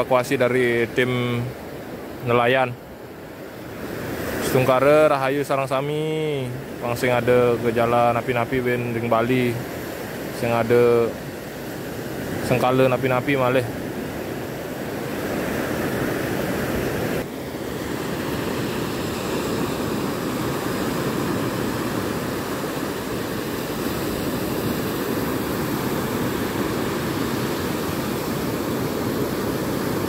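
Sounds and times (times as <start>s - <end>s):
surf breaking on beach: 3.5s - 30.0s.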